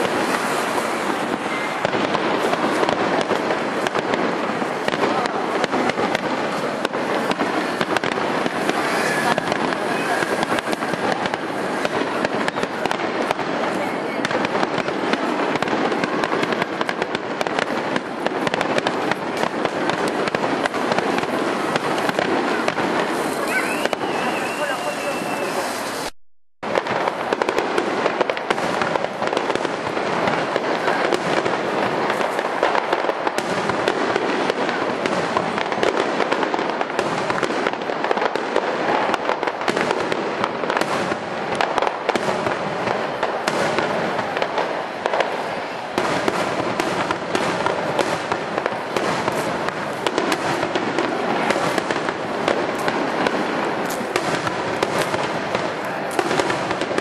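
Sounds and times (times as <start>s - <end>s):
firework bangs: 0.0s - 57.0s
firework crackle: 0.0s - 57.0s.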